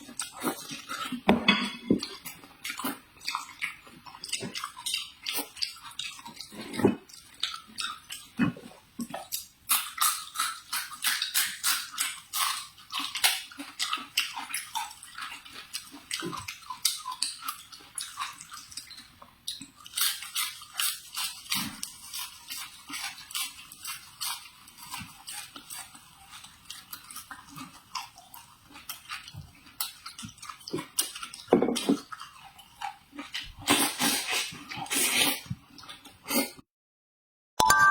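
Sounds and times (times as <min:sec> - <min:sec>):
close chewing of crisp vegetables: 0:00.0 - 0:36.6.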